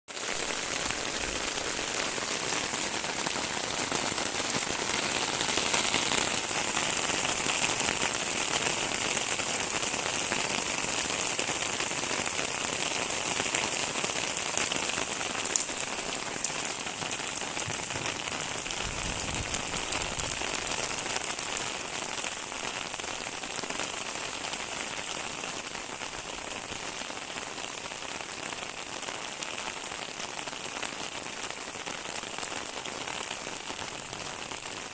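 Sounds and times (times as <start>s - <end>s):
rain pattering on surfaces: 0.1s - 34.9s.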